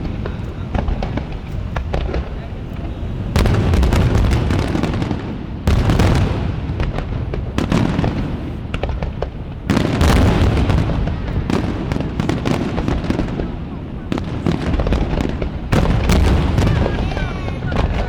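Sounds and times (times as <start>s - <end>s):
fireworks booming: 0.0s - 18.0s
fireworks crackling: 0.0s - 18.0s.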